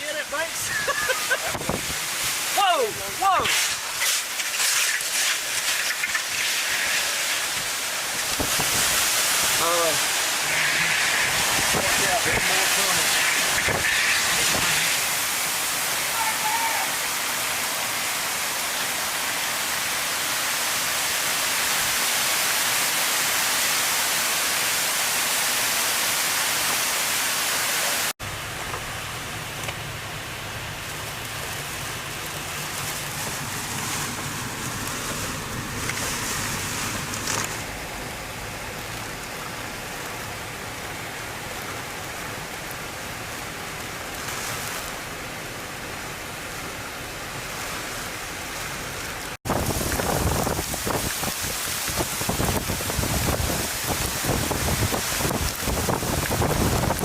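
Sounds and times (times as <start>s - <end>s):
wind gusts: 0.0s - 23.7s, 24.4s - 57.0s
heavy rain hiss: 0.0s - 57.0s
wind and rain rushing: 0.0s - 57.0s.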